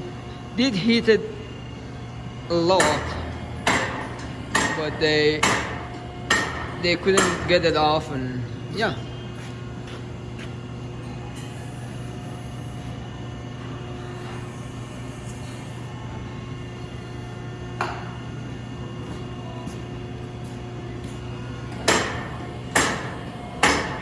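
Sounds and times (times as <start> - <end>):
hydraulic drive humming: 0.0 - 24.0.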